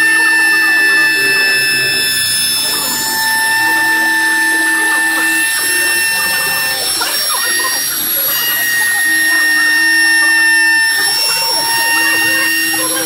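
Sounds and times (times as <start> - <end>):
high-pitched motor whine: 0.0 - 13.0.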